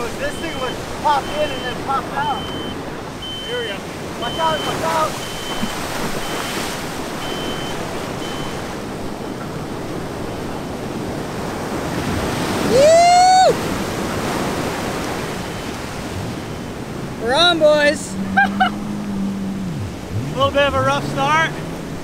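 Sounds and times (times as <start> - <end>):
surf breaking on beach: 0.0 - 22.0.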